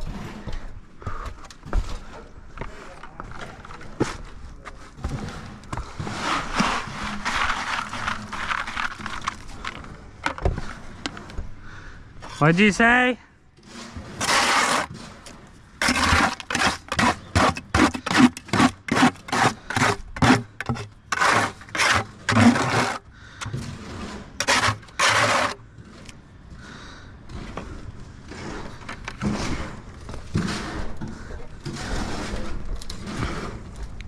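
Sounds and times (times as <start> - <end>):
tool scraping wet concrete: 1.9 - 11.4, 13.6 - 26.2, 26.8 - 34.0.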